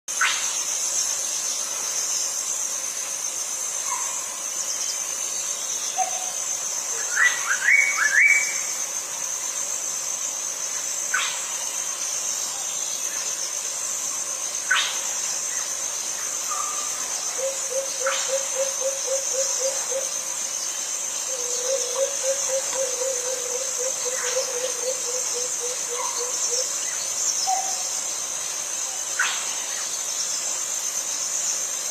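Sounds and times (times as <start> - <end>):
high-pitched insect drone: 0.1 - 31.9.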